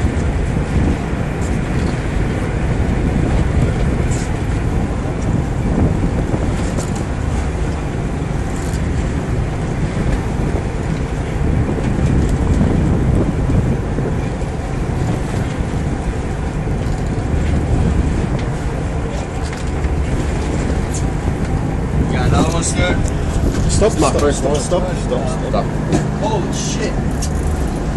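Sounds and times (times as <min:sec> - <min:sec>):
boat engine running: 0:00.0 - 0:27.9
water rushing along hull: 0:00.0 - 0:27.9
wind on microphone: 0:00.0 - 0:27.9.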